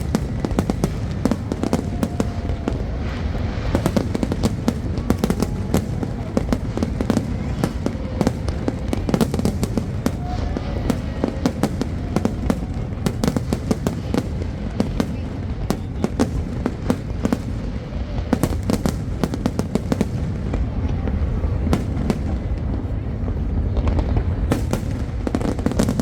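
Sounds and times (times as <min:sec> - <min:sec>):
fireworks cracks and bangs: 0:00.0 - 0:26.0.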